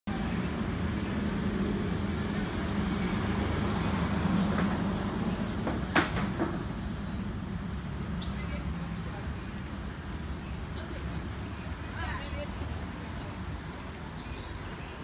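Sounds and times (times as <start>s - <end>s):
road traffic engine hum: 0.1s - 15.0s
street noise: 0.1s - 15.0s.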